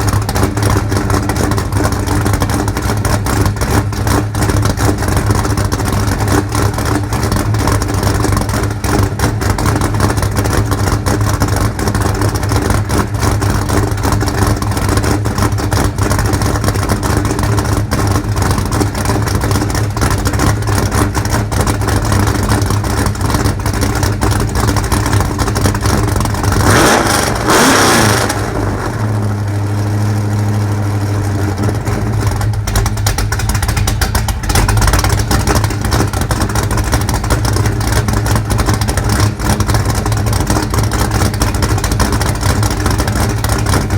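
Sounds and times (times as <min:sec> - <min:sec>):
engine idling and revving: 0:00.0 - 0:43.9.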